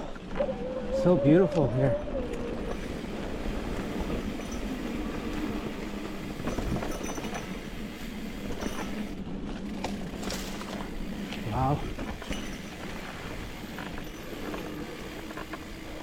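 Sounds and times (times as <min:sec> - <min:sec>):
bike tyres rumbling on dirt: 0:00.0 - 0:16.0
bike chain and frame rattling: 0:01.0 - 0:16.0.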